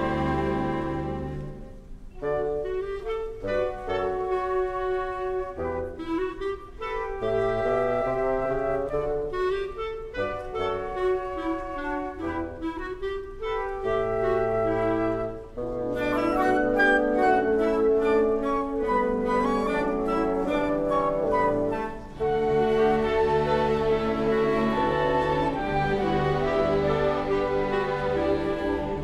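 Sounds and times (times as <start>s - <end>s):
strings: 0.0s - 13.2s, 13.8s - 29.0s
woodwinds playing melody: 0.0s - 29.0s.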